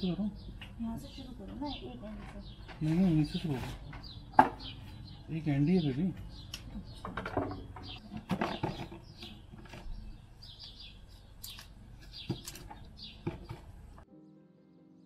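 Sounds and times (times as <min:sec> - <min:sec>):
bird chirps: 0:00.0 - 0:13.6.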